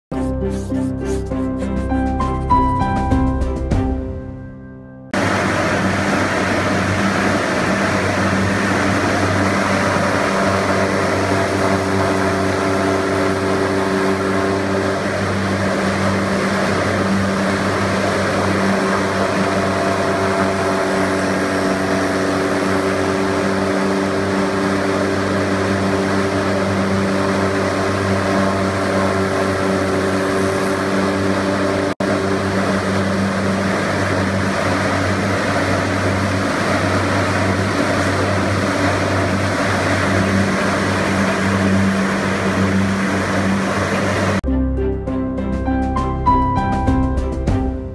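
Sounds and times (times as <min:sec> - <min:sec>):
lathe machine hum: 0:05.1 - 0:44.4.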